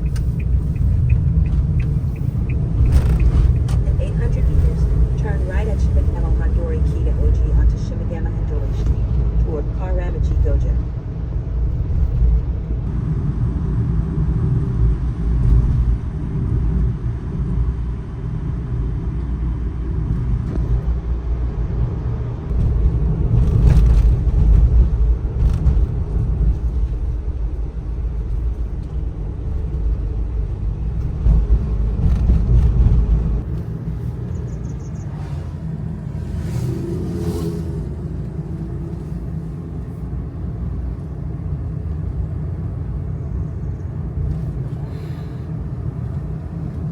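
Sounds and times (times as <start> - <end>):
small truck engine and road noise: 0.0 - 46.9.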